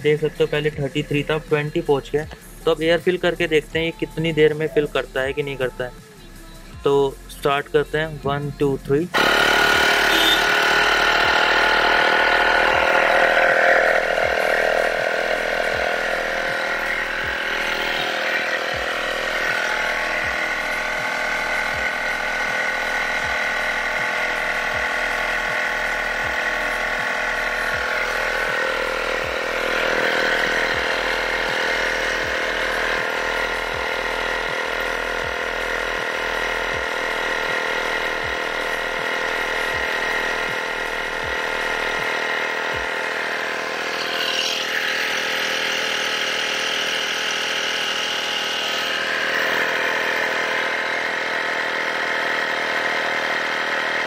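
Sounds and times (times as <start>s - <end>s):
tyre inflator compressor running: 0.0s - 54.0s.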